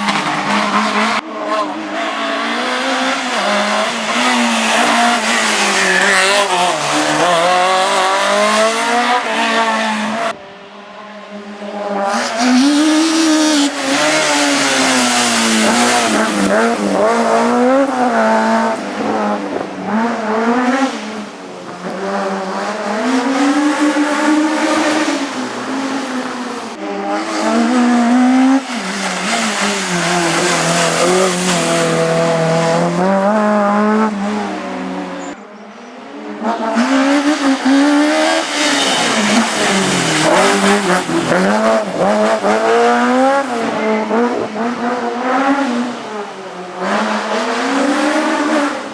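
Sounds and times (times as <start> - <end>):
race car engine at full throttle: 0.0 - 48.9.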